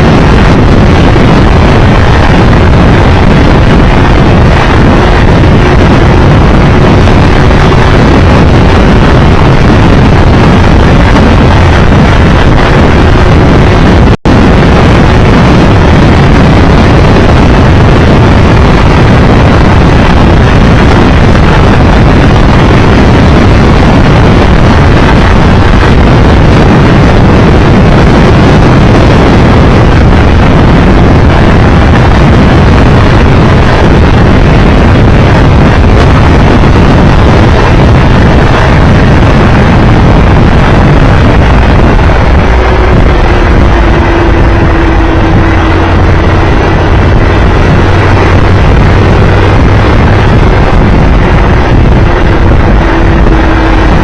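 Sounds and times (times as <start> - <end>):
motorcycle engine at speed: 0.0 - 54.0
wind buffeting microphone: 0.0 - 54.0.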